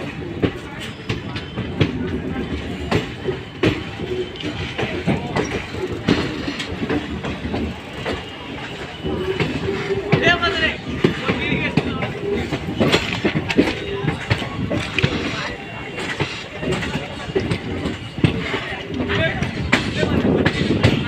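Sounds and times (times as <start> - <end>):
train rumbling on track: 0.0 - 21.0
wheels clacking: 0.0 - 21.0.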